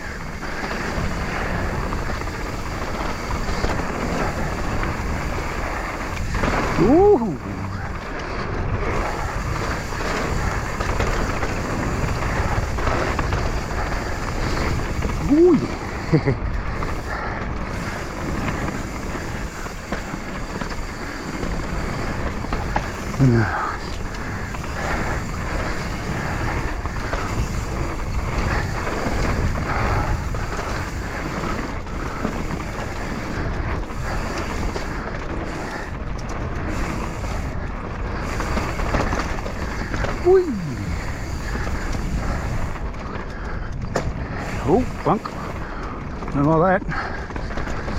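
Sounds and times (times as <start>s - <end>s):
bike rattling over bumps: 0.0s - 47.9s
tyres rolling on dirt: 0.0s - 47.9s
wind rushing over microphone: 0.0s - 47.9s.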